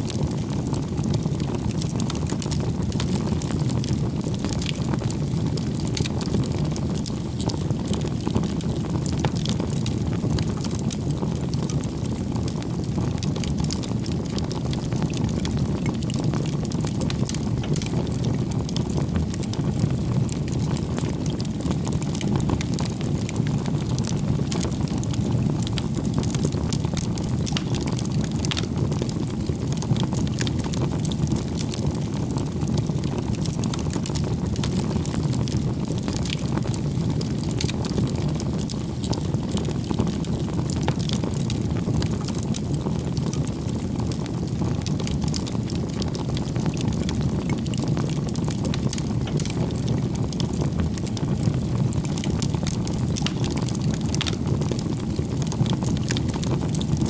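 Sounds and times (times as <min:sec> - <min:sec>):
bonfire flames rushing: 0:00.1 - 0:57.0
wood crackling and popping: 0:00.1 - 0:57.0.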